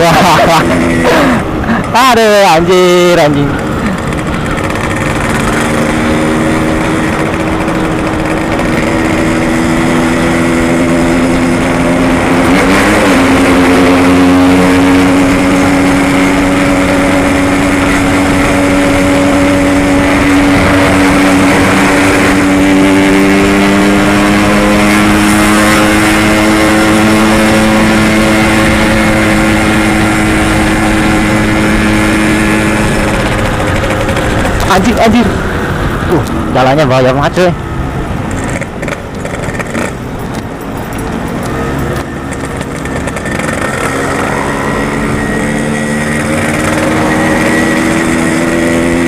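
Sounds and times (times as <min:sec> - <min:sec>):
two-stroke motorcycle engine running: 0:00.0 - 0:49.0.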